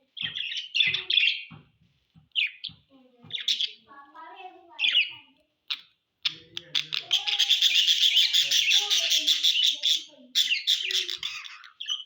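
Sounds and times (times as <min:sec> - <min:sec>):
budgerigars chattering: 0:00.2 - 0:01.5, 0:02.4 - 0:03.9, 0:04.8 - 0:12.0.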